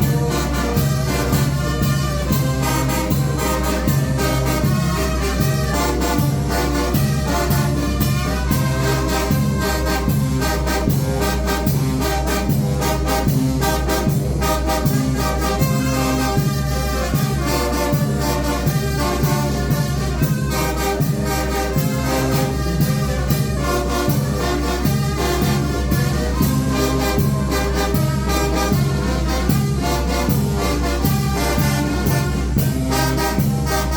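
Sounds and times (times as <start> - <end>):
brass band playing: 0.0 - 33.9.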